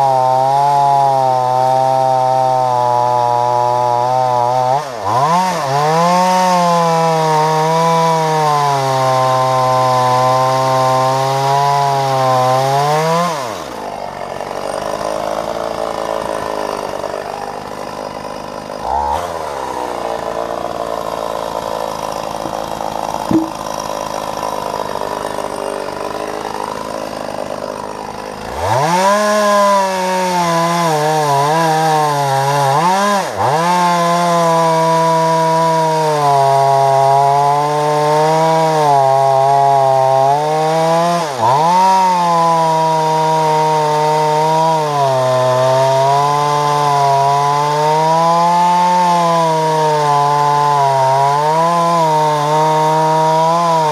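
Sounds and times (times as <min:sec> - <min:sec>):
chainsaw cutting logs: 0:00.0 - 0:53.9
chainsaw idling: 0:00.0 - 0:53.9.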